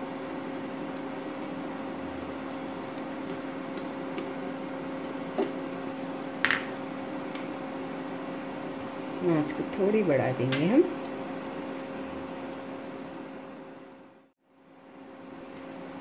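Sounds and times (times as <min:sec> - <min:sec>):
batter cooking in frying pan: 0:00.0 - 0:16.0.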